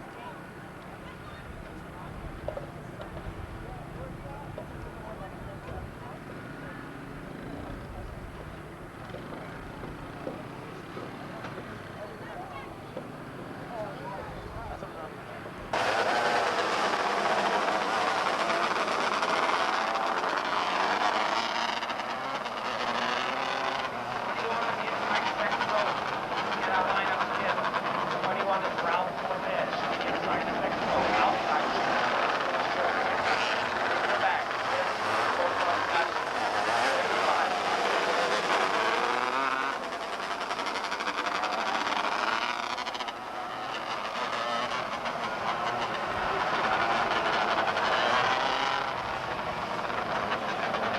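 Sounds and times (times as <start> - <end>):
race car engines droning: 0.0 - 50.9.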